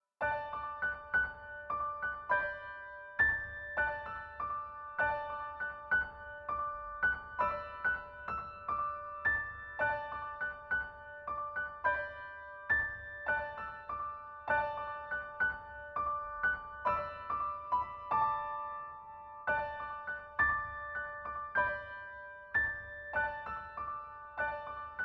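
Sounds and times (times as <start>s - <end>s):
gentle piano melody: 0.2s - 25.0s.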